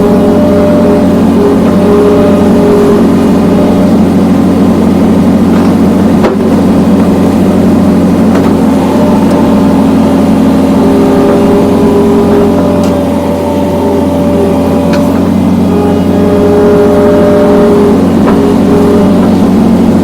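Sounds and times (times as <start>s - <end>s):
diesel engine running: 0.0s - 20.0s
hydraulic whine: 0.0s - 20.0s.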